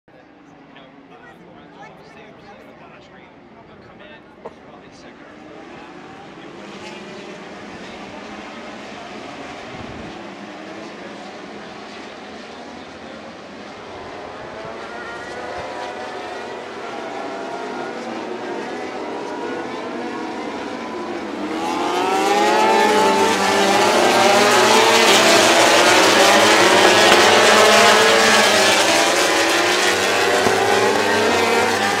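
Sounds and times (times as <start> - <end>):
racing motorcycles passing: 5.2 - 32.0.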